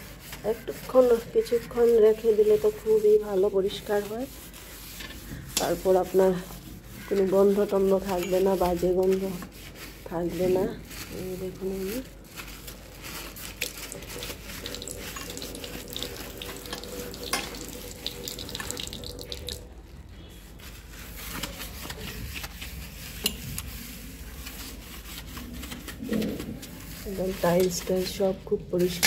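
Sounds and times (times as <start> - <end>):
hand scrubbing ceramic basin: 0.0 - 29.0.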